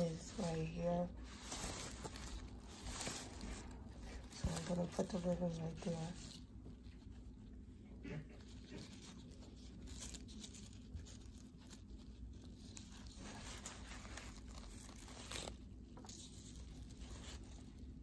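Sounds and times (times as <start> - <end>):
rustling and crinkling netting: 0.0 - 18.0.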